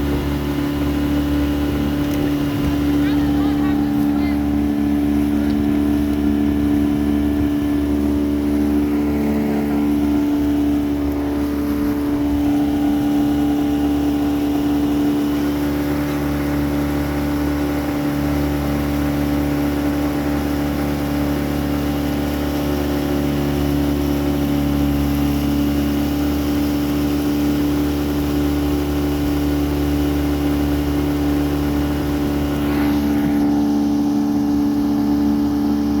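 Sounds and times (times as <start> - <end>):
motorboat engine droning: 0.0 - 36.0.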